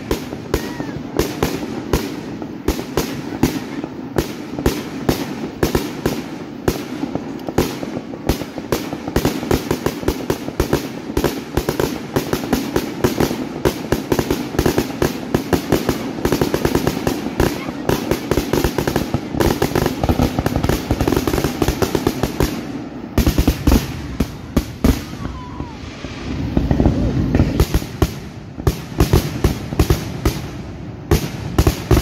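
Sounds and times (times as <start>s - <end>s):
fireworks bursting: 0.0s - 32.0s.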